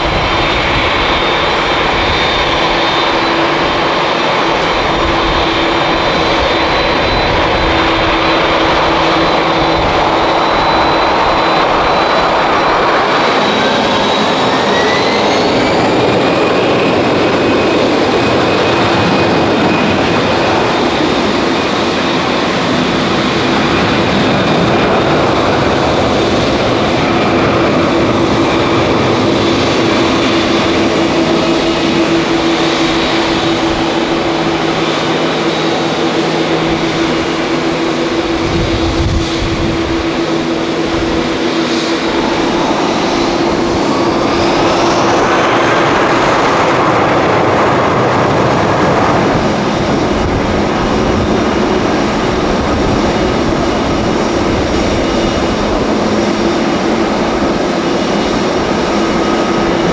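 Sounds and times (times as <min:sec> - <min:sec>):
jet engine whine rising: 0:00.0 - 0:59.9
jet engines humming: 0:00.0 - 0:59.9.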